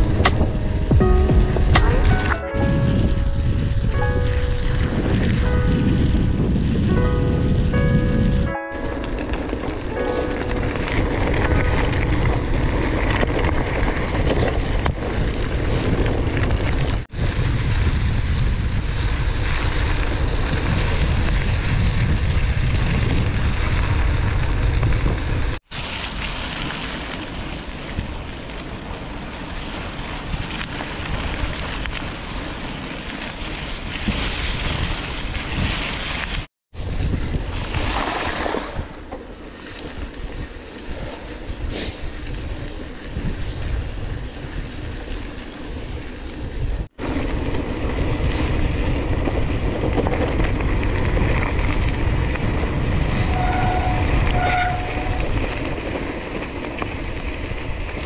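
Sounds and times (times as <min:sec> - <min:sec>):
wind buffeting microphone: 0:00.0 - 0:25.7, 0:29.6 - 0:58.0.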